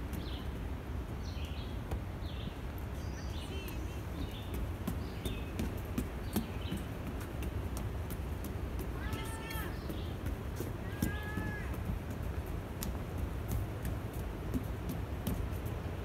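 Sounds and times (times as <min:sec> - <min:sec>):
footsteps on wooden boardwalk: 0:00.0 - 0:16.0.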